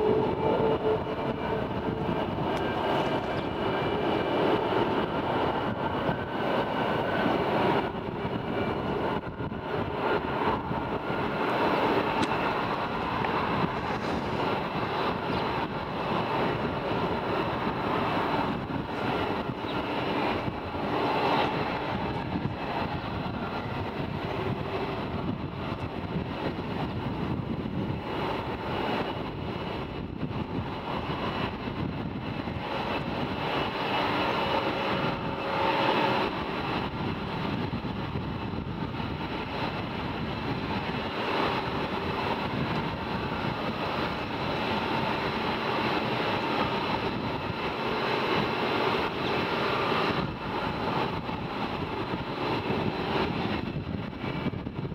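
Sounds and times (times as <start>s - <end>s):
jet engine rumble with whine: 0.0s - 54.9s.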